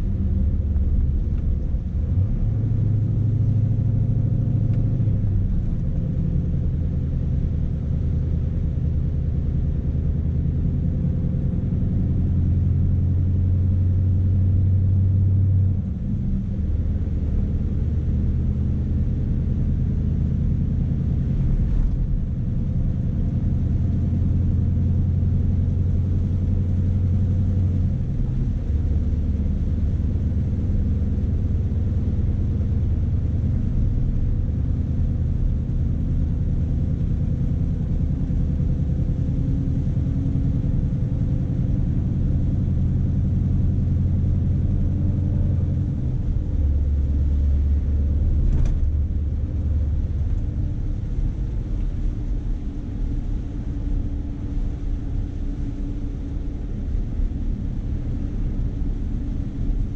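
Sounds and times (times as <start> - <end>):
diesel truck engine rumble: 0.0 - 59.9.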